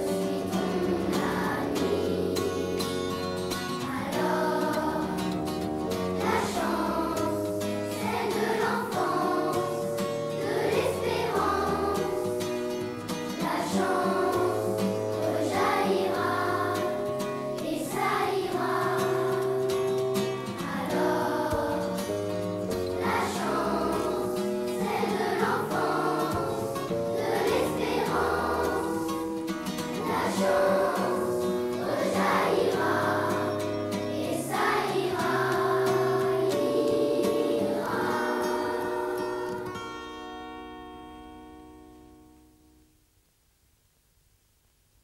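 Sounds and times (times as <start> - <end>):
children's choir singing: 0.0 - 40.0
instrumental accompaniment with bass: 0.3 - 42.4.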